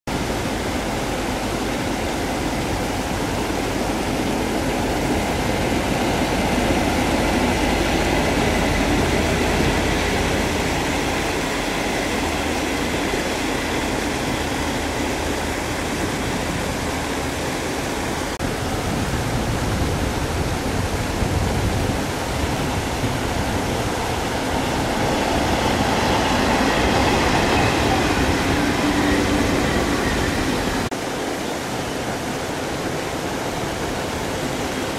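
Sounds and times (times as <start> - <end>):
paddlewheel aerators splashing: 0.1 - 34.9
passenger train rumbling past: 0.1 - 34.9.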